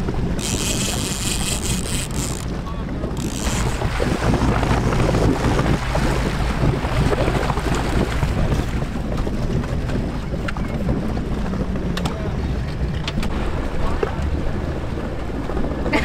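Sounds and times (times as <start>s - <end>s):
boat motor running: 0.0s - 16.0s
water rushing past hull: 0.0s - 16.0s
wind buffeting microphone: 0.0s - 16.0s.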